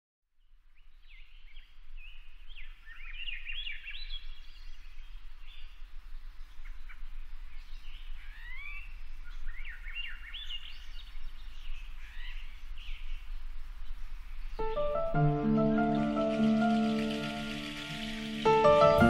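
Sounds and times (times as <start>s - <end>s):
birds singing and chirping: 0.8s - 19.0s.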